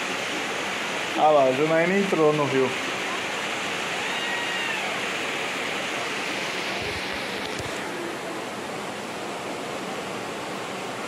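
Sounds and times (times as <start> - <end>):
river water rushing over rapids: 0.0 - 11.0.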